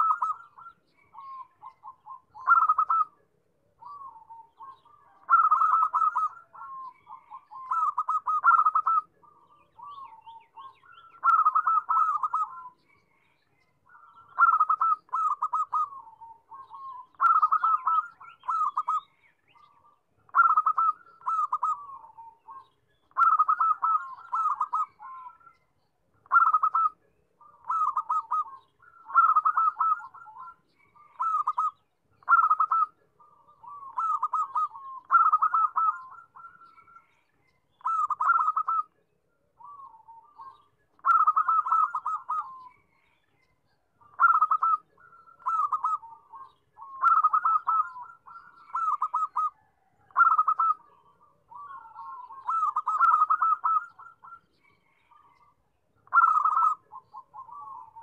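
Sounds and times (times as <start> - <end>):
dove cooing: 0.0 - 13.0, 13.9 - 25.6, 26.2 - 37.2, 37.8 - 39.0, 39.6 - 42.8, 44.0 - 58.0.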